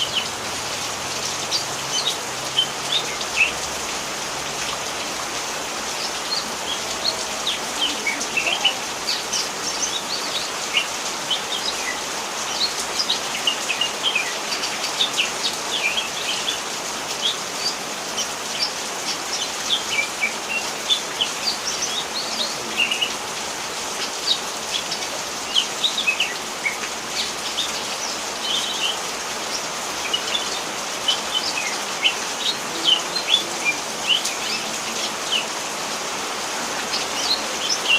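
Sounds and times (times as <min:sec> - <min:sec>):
rain hissing: 0:00.0 - 0:37.9.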